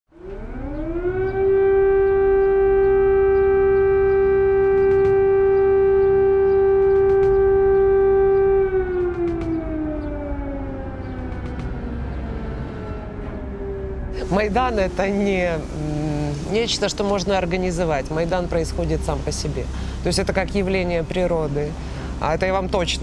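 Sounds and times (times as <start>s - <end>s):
air-raid siren wailing: 0.1s - 23.0s.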